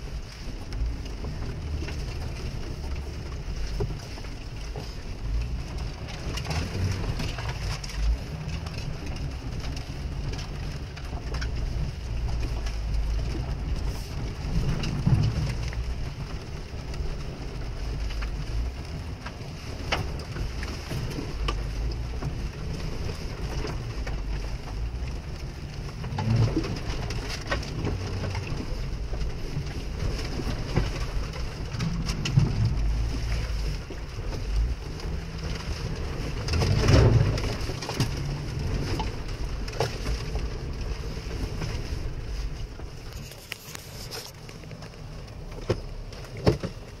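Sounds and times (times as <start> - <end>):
car engine rumbling: 0.0 - 47.0
rain on car body: 0.0 - 47.0.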